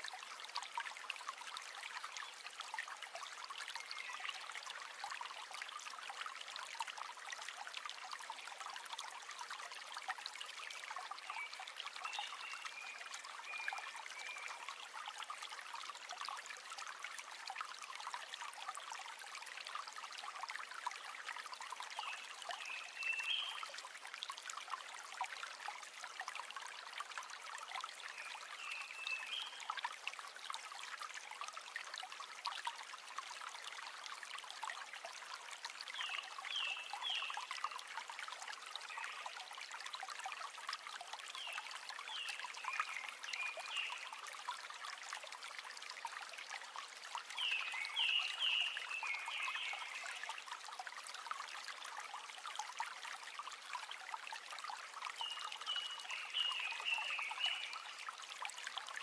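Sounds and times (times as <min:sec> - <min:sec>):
river water babbling: 0:00.0 - 0:59.0.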